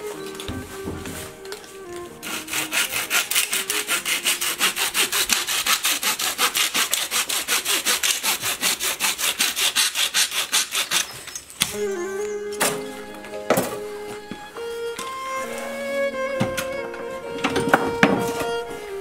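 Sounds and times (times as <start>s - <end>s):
hand saw cutting brushwood: 0.0s - 15.8s.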